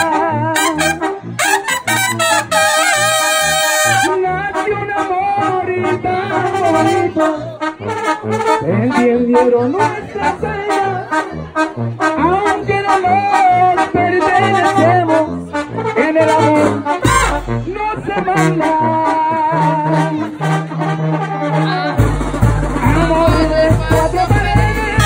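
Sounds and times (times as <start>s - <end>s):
sousaphone bass line: 0.0s - 7.7s, 8.3s - 25.0s
trumpets playing melody: 0.0s - 25.0s.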